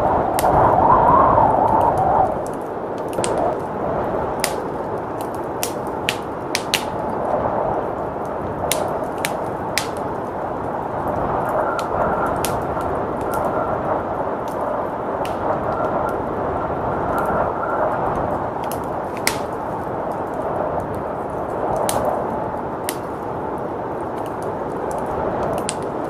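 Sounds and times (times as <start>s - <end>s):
blizzard wind rushing: 0.0s - 26.0s
faint whistling wind: 0.0s - 26.0s
wood fire crackling and popping: 0.0s - 26.0s.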